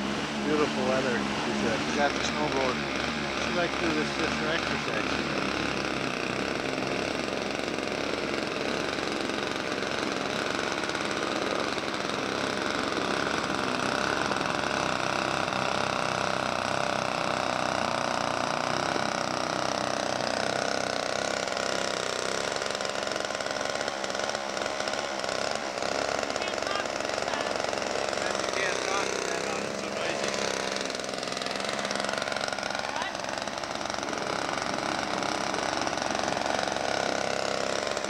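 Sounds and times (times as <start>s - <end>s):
snowblower engine running: 0.0s - 38.0s.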